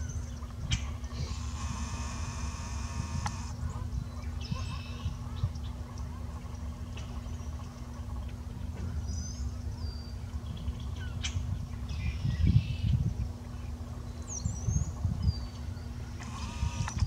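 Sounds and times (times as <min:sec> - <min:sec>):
birds calling: 0:00.0 - 0:17.0
low rumble and hum: 0:00.0 - 0:17.0.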